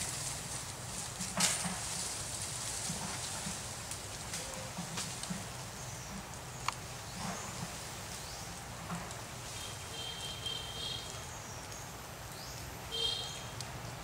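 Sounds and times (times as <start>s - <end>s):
forest ambience hiss: 0.0s - 14.0s.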